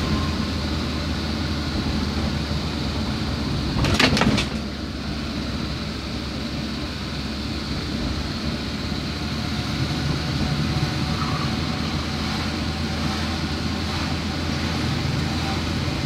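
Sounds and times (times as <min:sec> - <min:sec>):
tyre road noise: 0:00.0 - 0:16.0
vehicle engine hum: 0:00.0 - 0:16.0.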